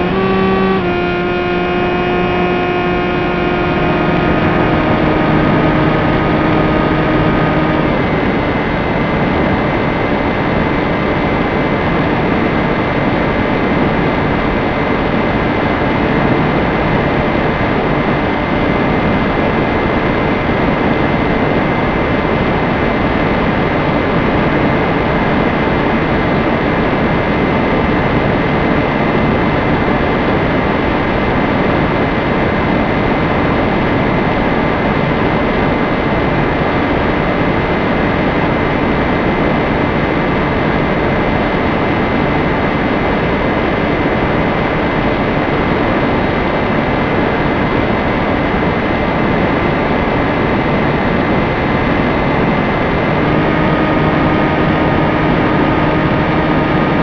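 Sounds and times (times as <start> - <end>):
aircraft motor drone: 0.0 - 57.0
faint whine: 0.0 - 57.0.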